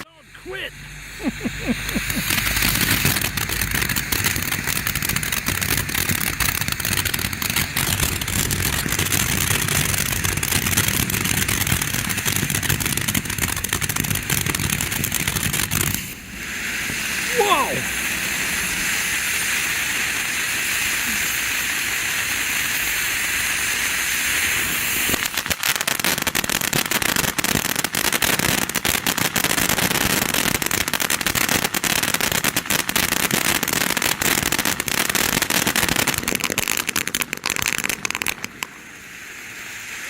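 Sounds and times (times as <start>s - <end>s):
firework fountain spraying hiss: 0.0s - 40.0s
firework rapid crackling: 0.0s - 40.0s.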